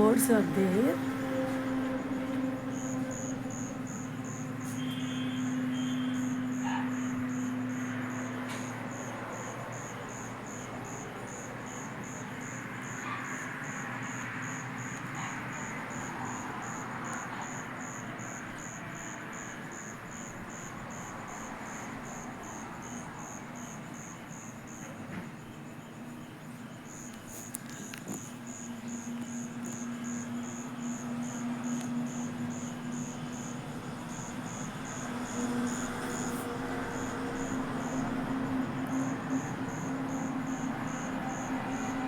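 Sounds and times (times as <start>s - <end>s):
cricket chirping: 0.0s - 42.0s.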